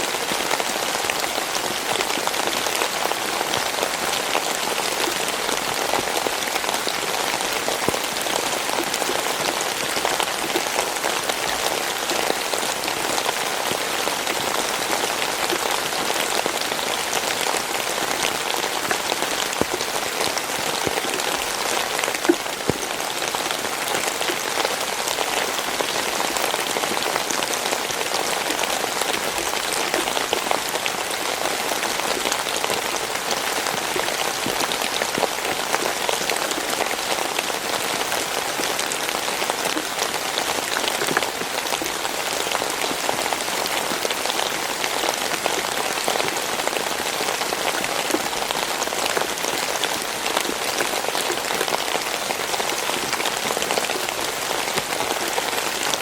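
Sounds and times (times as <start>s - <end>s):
rain drops hitting surface: 0.0s - 56.0s.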